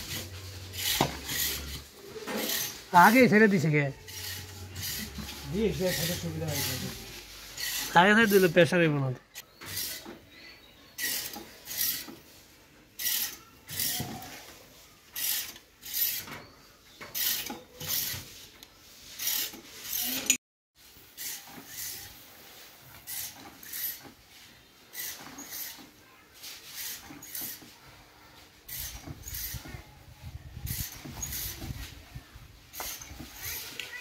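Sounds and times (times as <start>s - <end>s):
hand pump strokes rasping: 0.0s - 10.3s, 11.0s - 12.3s, 12.9s - 14.5s, 15.1s - 16.3s, 17.1s - 20.4s, 21.0s - 24.2s, 24.8s - 26.0s, 26.6s - 27.8s, 28.5s - 32.0s, 32.7s - 34.0s.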